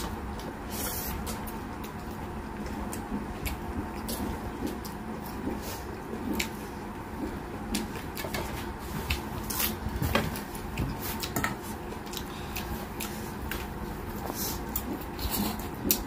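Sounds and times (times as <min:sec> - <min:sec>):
person chewing with mouth open: 0:00.0 - 0:16.0
steady low hum: 0:00.0 - 0:16.0.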